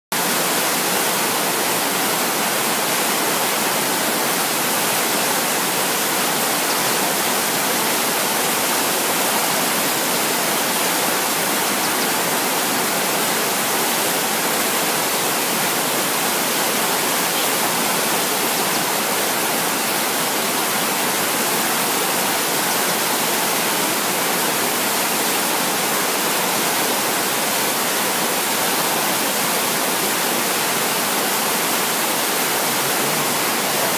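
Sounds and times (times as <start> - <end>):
river rapids rushing over rocks: 0.2 - 33.9.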